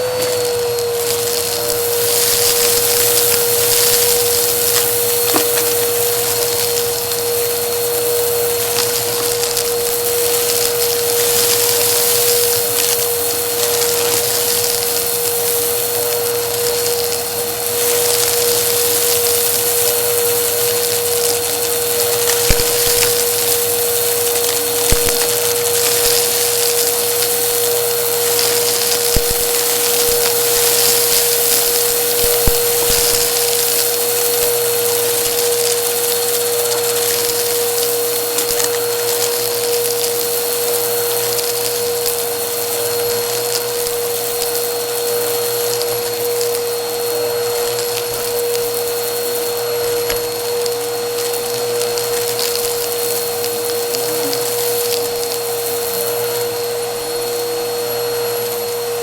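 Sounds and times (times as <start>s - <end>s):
grit clicking in vacuum: 0.0s - 57.5s
vacuum cleaner motor whine: 0.0s - 59.0s.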